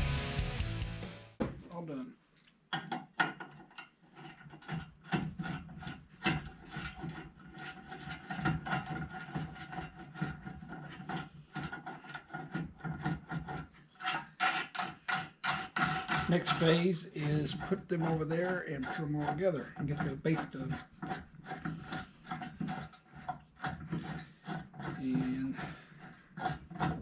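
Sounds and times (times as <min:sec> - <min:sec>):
wood knocking and scraping: 0:02.7 - 0:27.0.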